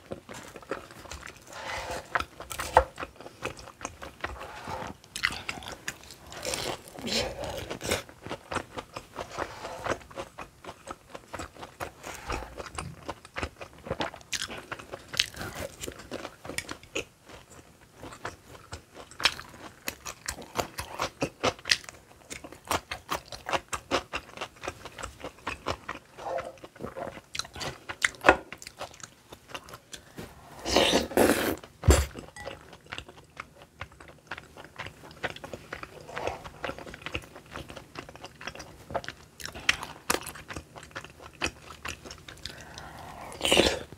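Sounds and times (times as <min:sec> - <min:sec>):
chewing crunchy snacks: 0:00.0 - 0:43.9.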